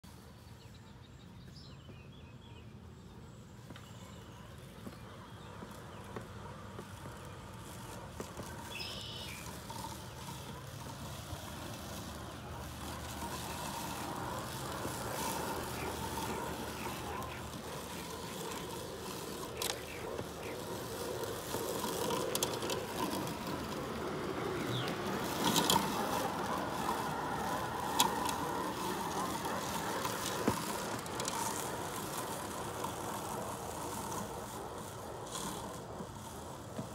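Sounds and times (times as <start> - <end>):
robot lawnmower motor whine: 3.7 - 36.9.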